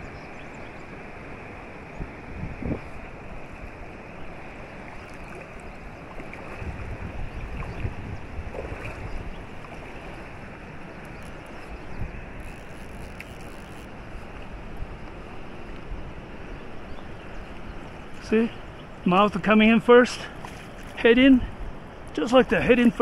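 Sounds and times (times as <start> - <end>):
wind buffeting microphone: 0.0 - 19.0
flowing river water: 0.0 - 23.0.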